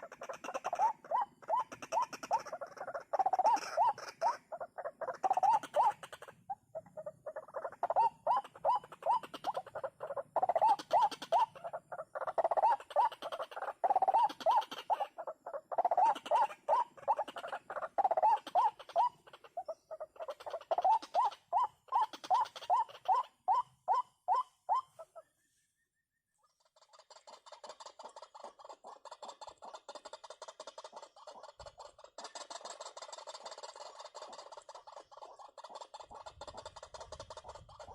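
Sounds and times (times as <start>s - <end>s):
waterhen calling: 0.0s - 25.2s, 26.6s - 37.9s.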